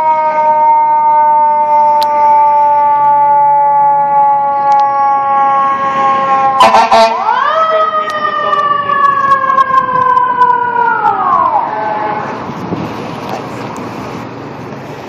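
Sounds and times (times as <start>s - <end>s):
short sharp siren blasts: 0.0s - 12.4s
fire engine siren wailing: 0.0s - 15.0s.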